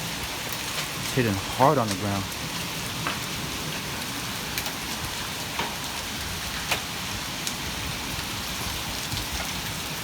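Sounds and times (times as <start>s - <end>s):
hailstones clicking on hard surfaces: 0.0s - 10.0s
heavy rain hiss: 0.0s - 10.0s.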